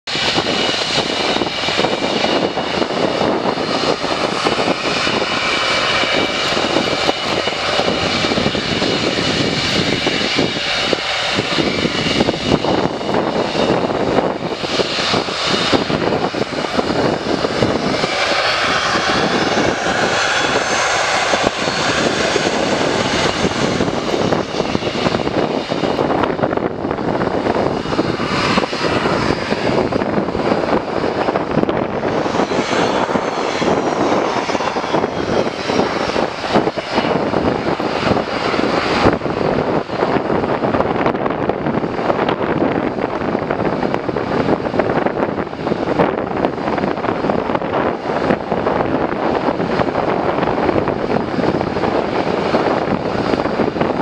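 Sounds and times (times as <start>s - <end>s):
jet engines rumbling with whine: 0.0s - 54.0s.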